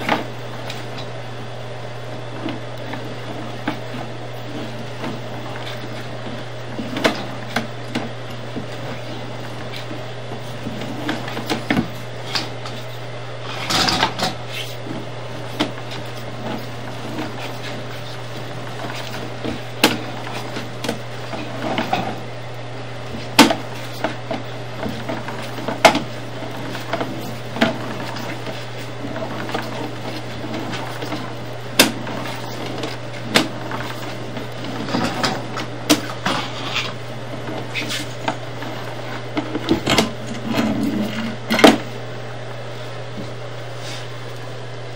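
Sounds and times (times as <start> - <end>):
low electrical hum: 0.0 - 44.9.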